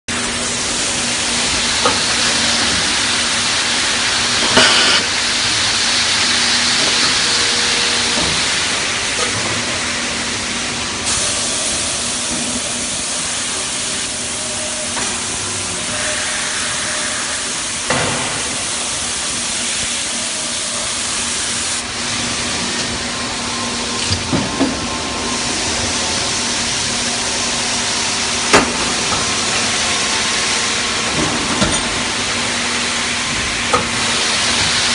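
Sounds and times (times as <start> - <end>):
machine hissing: 0.1 - 34.9.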